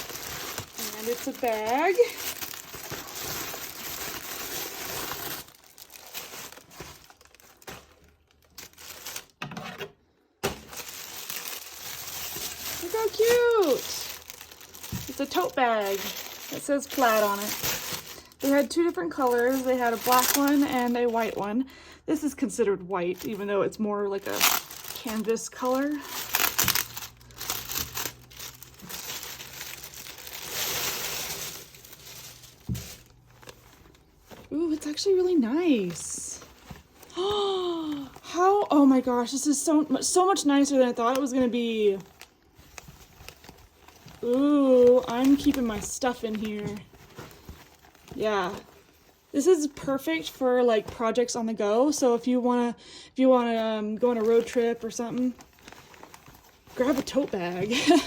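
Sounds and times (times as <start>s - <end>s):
packaging crinkling and rustling: 0.0s - 21.6s, 22.4s - 51.2s, 54.0s - 58.0s.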